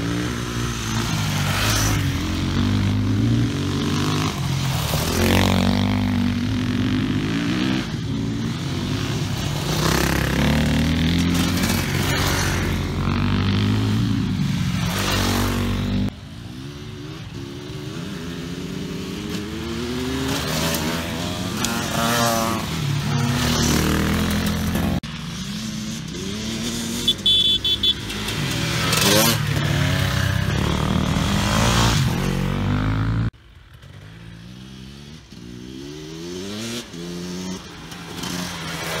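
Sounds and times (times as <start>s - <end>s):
dirt bike approaching: 0.0s - 39.0s
dirt bike engines revving: 0.0s - 39.0s.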